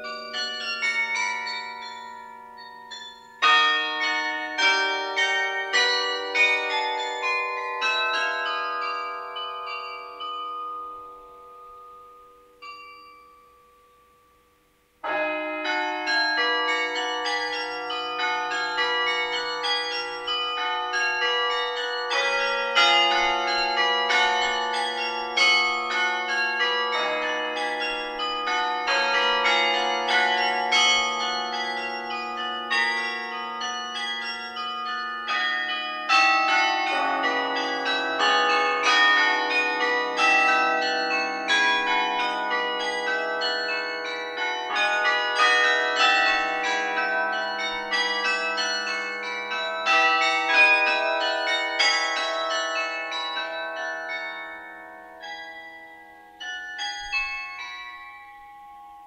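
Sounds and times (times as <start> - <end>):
carillon bells ringing: 0.0 - 14.0, 15.0 - 59.0.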